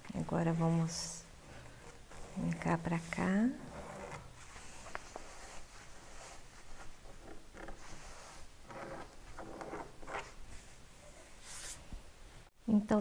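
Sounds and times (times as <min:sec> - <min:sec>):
fabric rustling: 0:00.1 - 0:12.5.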